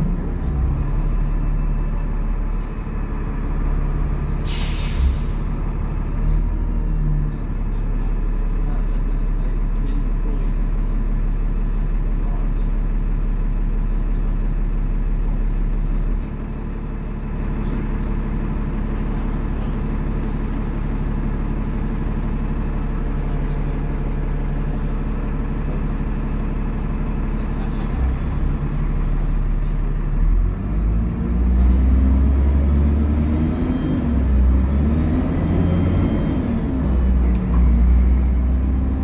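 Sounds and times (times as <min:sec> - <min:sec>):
bus diesel engine droning: 0:00.0 - 0:39.0.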